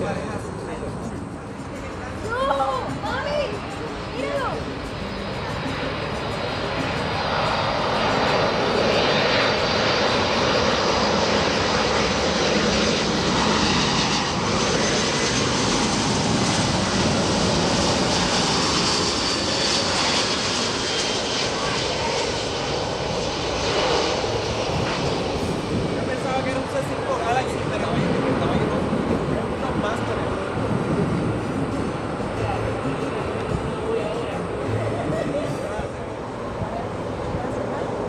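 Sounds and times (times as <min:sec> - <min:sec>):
aircraft engines running: 0:00.0 - 0:38.0.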